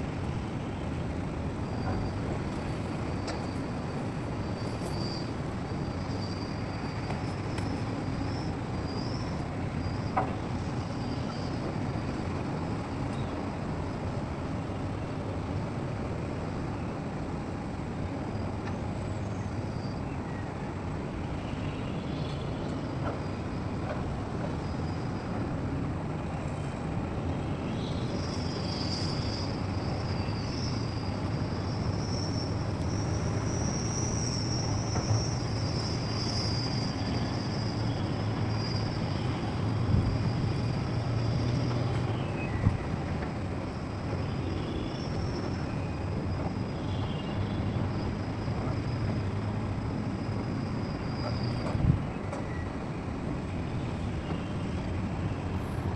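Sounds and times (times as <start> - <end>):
diesel machinery engine drone: 0.0 - 55.9.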